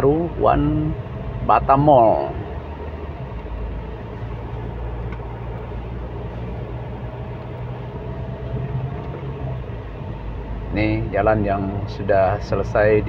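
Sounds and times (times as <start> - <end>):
car engine and tyre drone: 0.0 - 13.0.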